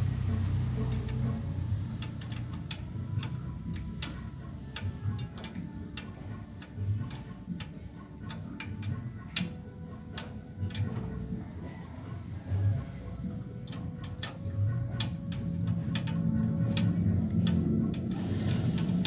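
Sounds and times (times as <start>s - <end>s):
metallic clicks of hand tools: 0.3s - 11.9s, 13.3s - 19.0s.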